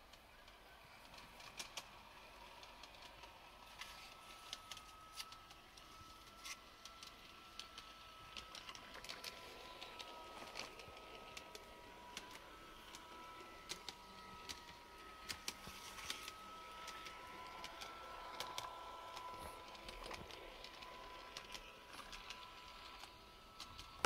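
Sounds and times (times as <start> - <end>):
faint steady whine: 0.0 - 24.0
model train wheels clicking: 0.0 - 24.0.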